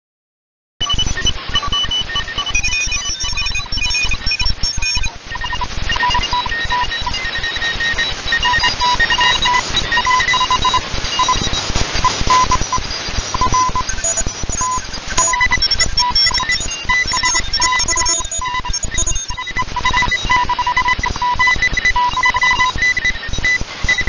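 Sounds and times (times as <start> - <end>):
morse code beeps: 0.8 - 24.0
radio static hiss: 0.8 - 24.0.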